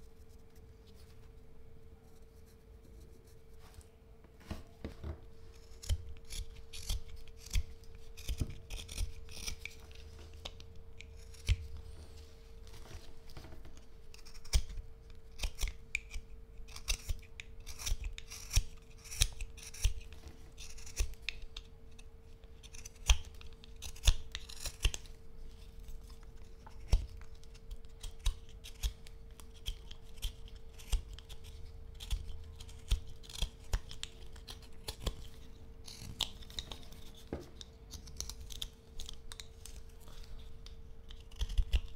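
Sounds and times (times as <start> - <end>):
knife carving wood: 5.3 - 41.9.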